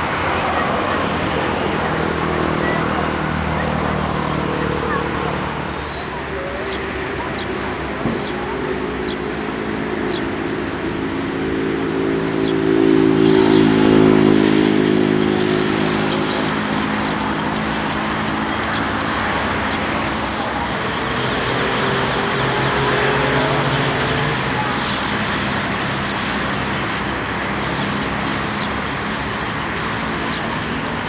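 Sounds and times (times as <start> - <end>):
diesel truck driving past: 0.0 - 31.0
jet airliner rumble: 0.0 - 31.0.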